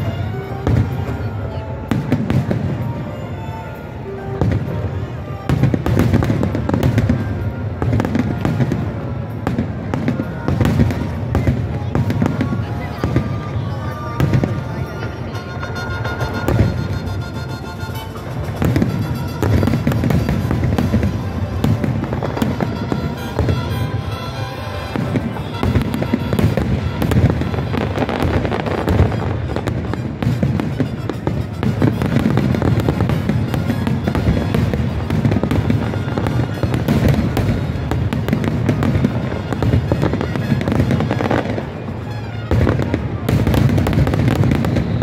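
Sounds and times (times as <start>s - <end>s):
music playing: 0.0s - 11.6s, 12.2s - 44.5s
fireworks booming and crackling: 0.0s - 45.0s.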